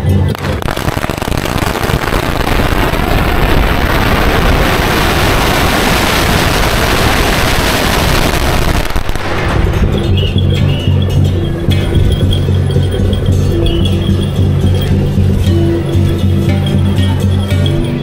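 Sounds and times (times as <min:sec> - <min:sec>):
firecrackers going off: 0:00.1 - 0:14.8.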